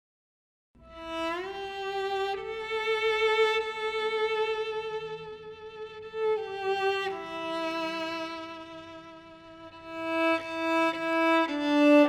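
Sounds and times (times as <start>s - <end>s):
solo violin playing long notes: 0.8s - 12.0s.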